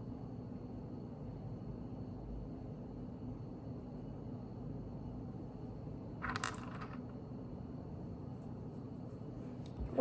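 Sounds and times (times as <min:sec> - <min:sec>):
low room hum and hiss: 0:00.0 - 0:10.0.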